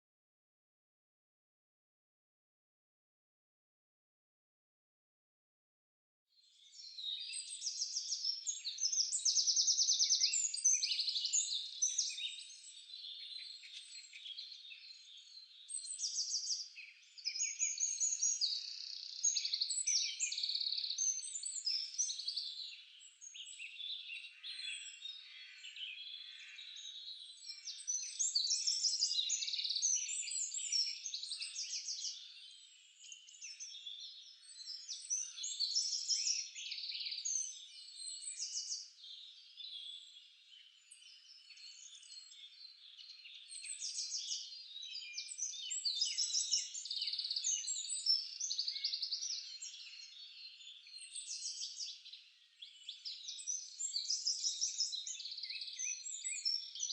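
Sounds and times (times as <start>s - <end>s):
birds chirping and trilling: 6.4s - 56.9s.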